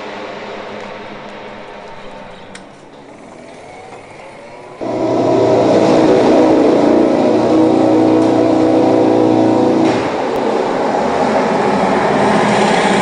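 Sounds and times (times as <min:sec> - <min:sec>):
racing motorcycle engine: 0:00.0 - 0:13.0.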